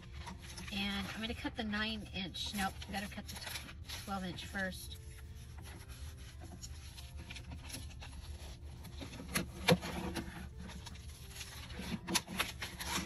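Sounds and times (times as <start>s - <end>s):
paper rustling and sliding: 0.0s - 1.6s, 2.4s - 13.0s.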